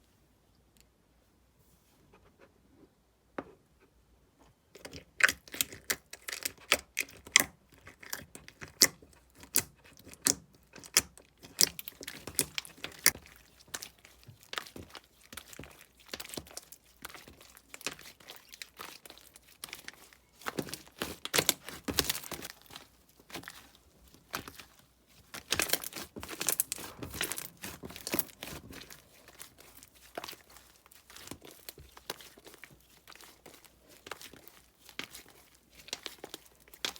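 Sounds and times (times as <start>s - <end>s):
slime squished by hand: 4.8s - 36.9s.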